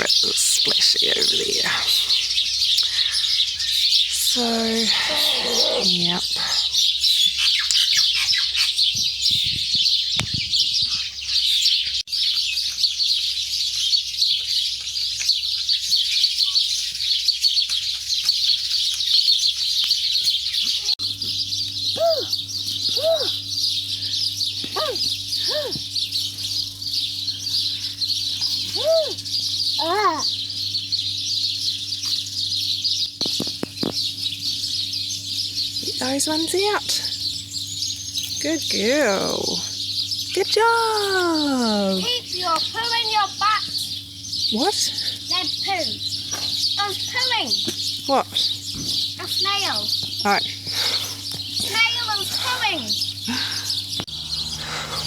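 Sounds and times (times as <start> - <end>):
low steady hum: 0.0 - 11.2, 20.7 - 55.0
chickens calling: 0.0 - 55.0.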